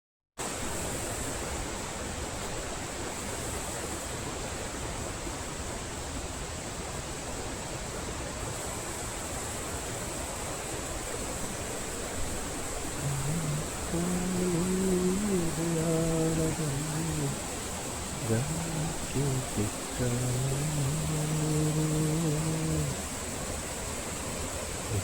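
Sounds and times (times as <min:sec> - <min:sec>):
stream rushing over rocks: 0:00.4 - 0:25.0.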